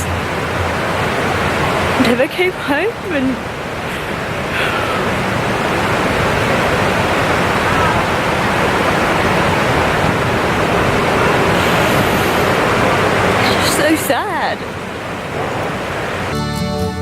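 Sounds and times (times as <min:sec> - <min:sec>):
water pouring down walls: 0:00.0 - 0:16.4.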